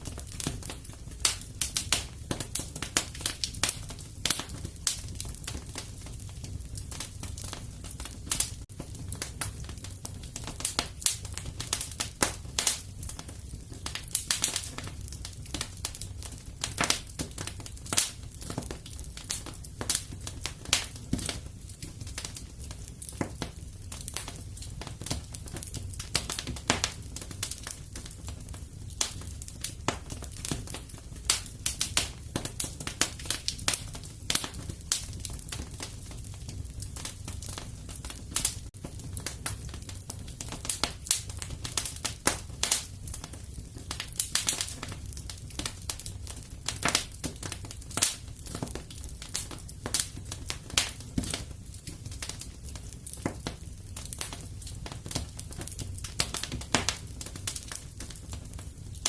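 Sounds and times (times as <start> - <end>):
fireplace fire crackling and popping: 0.0 - 59.0.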